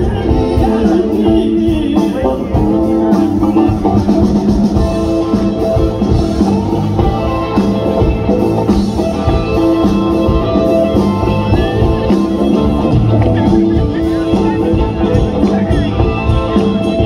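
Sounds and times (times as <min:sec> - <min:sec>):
drums: 0:00.0 - 0:17.0
electric guitar: 0:00.0 - 0:17.0.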